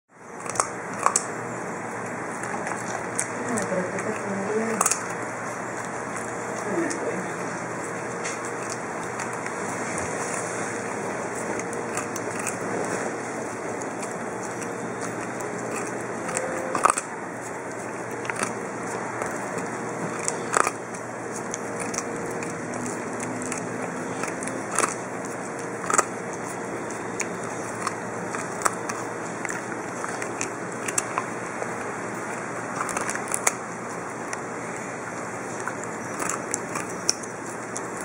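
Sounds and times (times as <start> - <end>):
puppy crunching carrot: 0.2 - 38.0.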